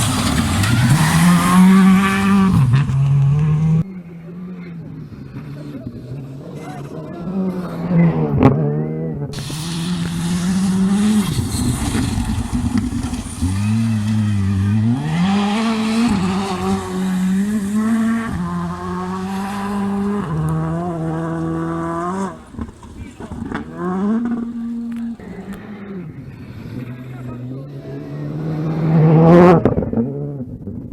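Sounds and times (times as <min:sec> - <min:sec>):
rally car engine accelerating: 0:00.0 - 0:30.9.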